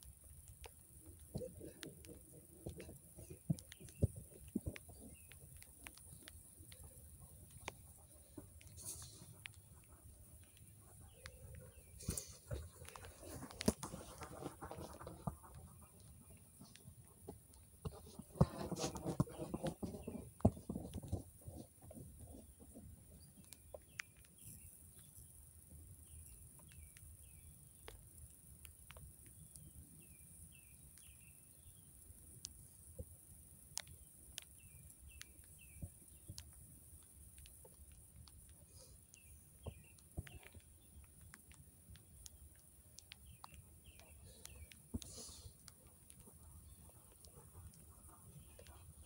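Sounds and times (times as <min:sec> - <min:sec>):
sharp ticks and taps: 0:00.0 - 0:25.3, 0:26.0 - 0:49.0
small birds chirping: 0:00.0 - 0:49.0.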